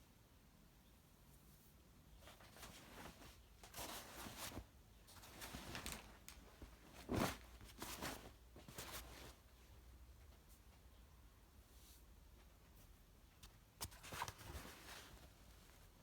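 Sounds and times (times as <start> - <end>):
jacket fabric rustling: 2.1 - 16.0.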